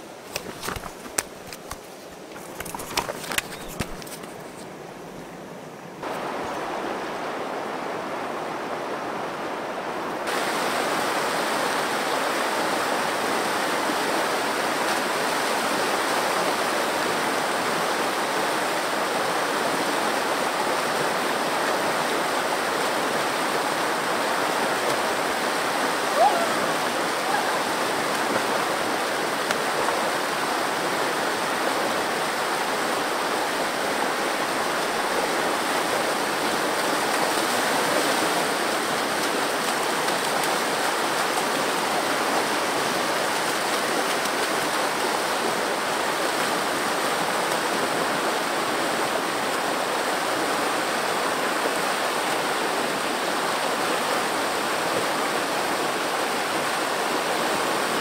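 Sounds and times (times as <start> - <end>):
river rapids rushing: 6.0 - 58.0.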